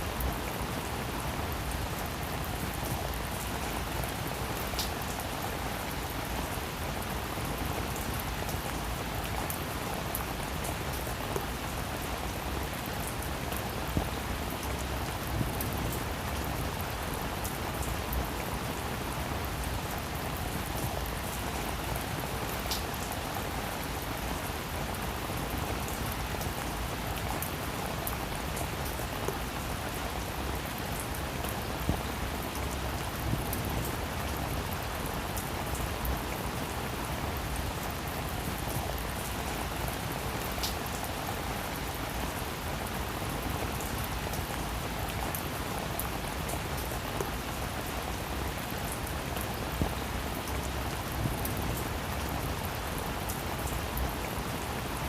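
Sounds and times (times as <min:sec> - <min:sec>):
rain falling on a roof: 0:00.0 - 0:55.0
raindrops hitting close by: 0:00.0 - 0:55.0.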